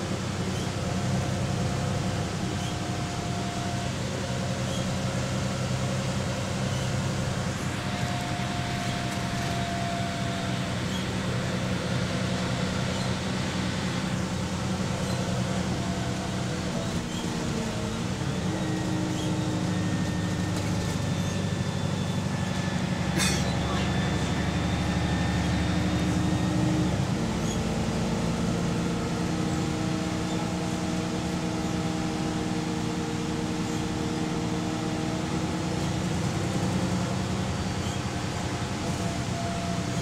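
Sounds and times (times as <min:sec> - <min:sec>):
bus engine drone: 0:00.0 - 0:40.0.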